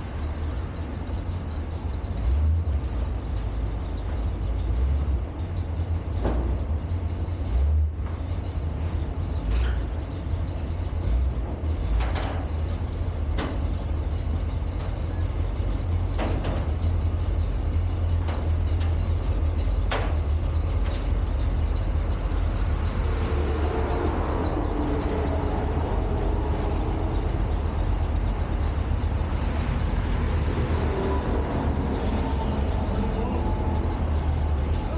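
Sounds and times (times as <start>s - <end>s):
vehicle engine rumble: 0.0s - 34.9s
short clicks and rattles: 0.1s - 34.9s.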